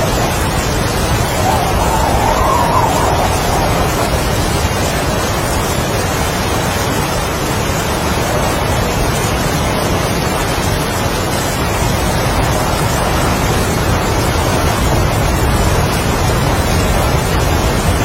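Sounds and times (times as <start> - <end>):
heavy rain with strong wind: 0.0 - 18.0.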